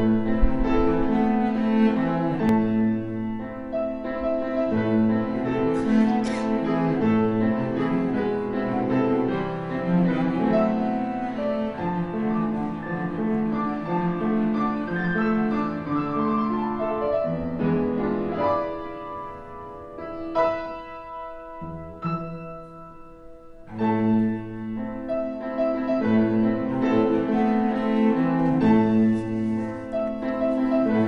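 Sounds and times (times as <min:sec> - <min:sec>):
bowed strings and piano music: 0:00.0 - 0:31.0.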